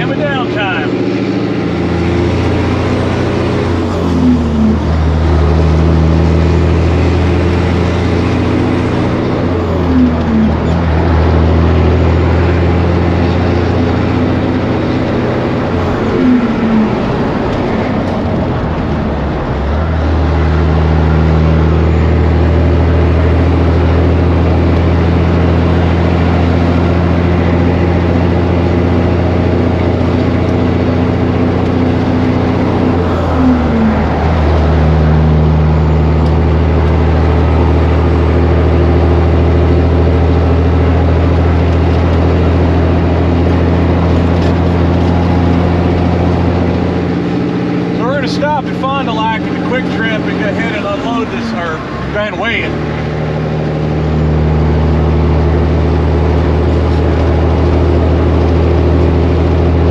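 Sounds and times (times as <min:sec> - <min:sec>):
truck diesel engine pulling: 0:00.0 - 0:59.9.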